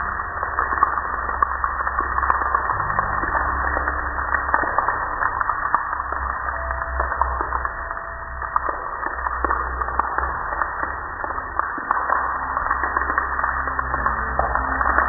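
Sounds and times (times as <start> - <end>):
low rumble: 0.0 - 15.0
water drips splatting: 0.0 - 15.0
water streaming and splashing: 0.0 - 15.0.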